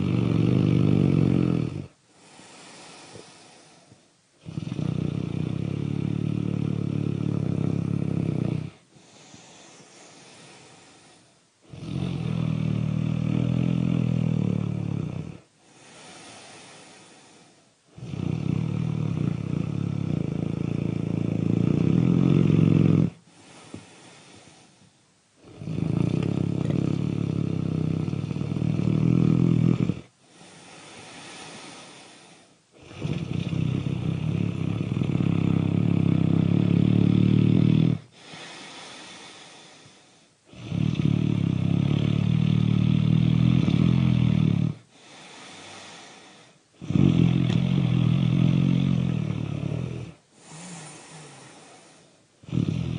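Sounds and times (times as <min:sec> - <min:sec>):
loud buzzing snores: 0:00.0 - 0:24.8, 0:25.4 - 0:52.9
quiet breathing: 0:00.0 - 0:52.9.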